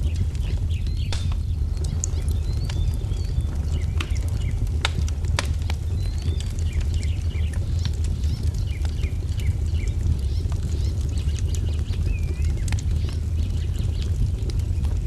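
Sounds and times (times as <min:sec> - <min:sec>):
songbirds chirping: 0:00.0 - 0:15.0
wood fire crackling: 0:00.0 - 0:15.0.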